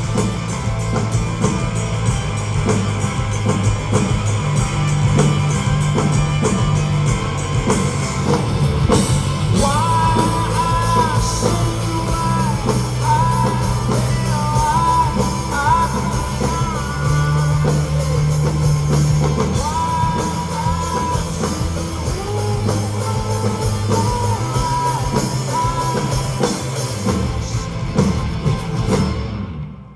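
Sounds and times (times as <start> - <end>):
drum kit: 0.0 - 29.8
electric guitar: 0.0 - 29.8
bass guitar: 0.0 - 29.9.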